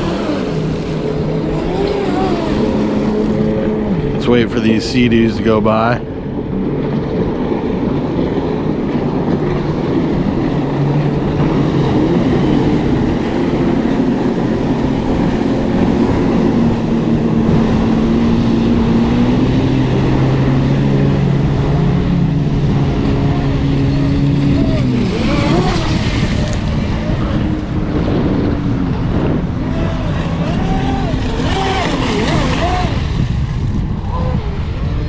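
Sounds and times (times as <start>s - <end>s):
watercraft engines droning: 0.0s - 35.0s.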